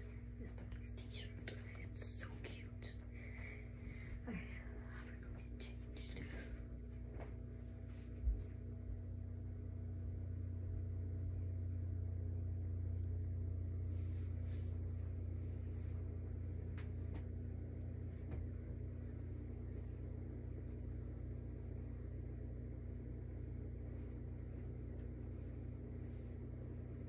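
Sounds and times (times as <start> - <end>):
ceiling fan humming: 0.0 - 27.0.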